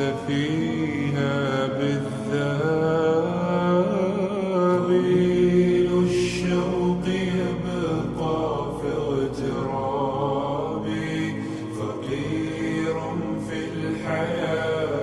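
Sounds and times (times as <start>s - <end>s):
person singing mournful melody: 0.0s - 15.0s
steady held drone: 0.0s - 15.0s.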